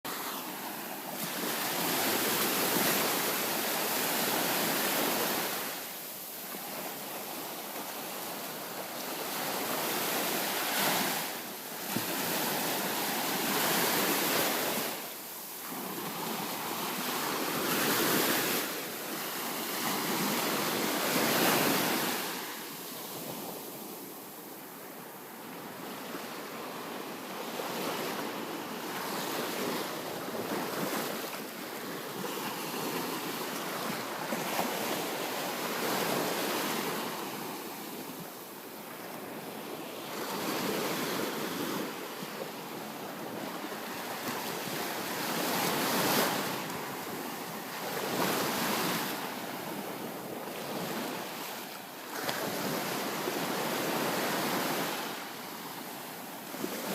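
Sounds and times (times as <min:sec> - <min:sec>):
ocean waves breaking on beach: 0:00.1 - 0:56.9.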